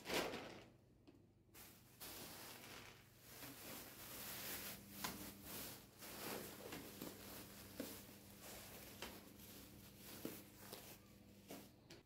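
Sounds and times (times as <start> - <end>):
plastic bag rustling and crinkling: 0.0 - 0.8, 1.6 - 11.8.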